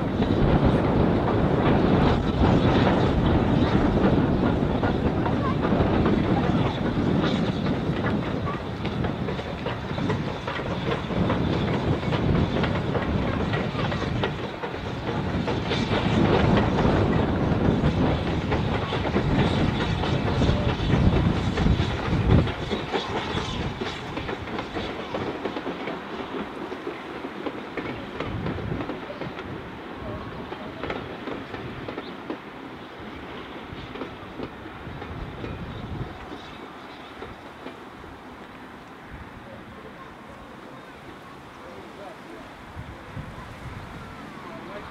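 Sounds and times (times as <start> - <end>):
train coaches running on rails: 0.0 - 44.9.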